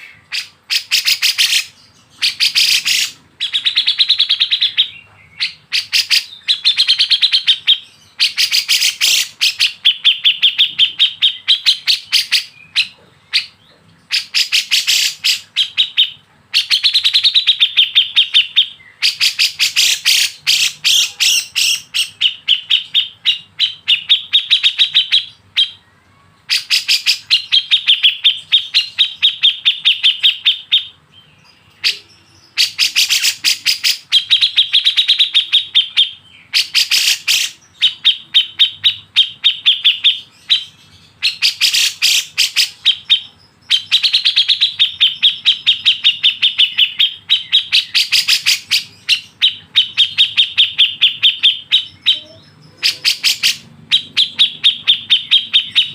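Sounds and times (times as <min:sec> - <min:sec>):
bird calling sharp repeated notes: 0:00.0 - 0:55.9.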